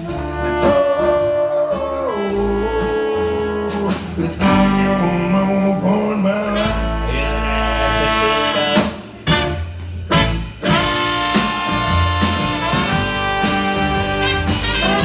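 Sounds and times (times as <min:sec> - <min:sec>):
drums: 0:00.0 - 0:15.0
trombone: 0:00.0 - 0:15.0
trumpet: 0:00.0 - 0:15.0.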